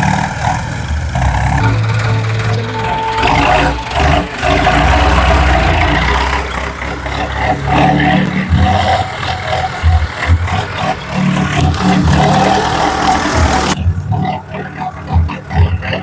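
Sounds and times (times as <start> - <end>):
tractor engine revving: 0.0 - 16.0.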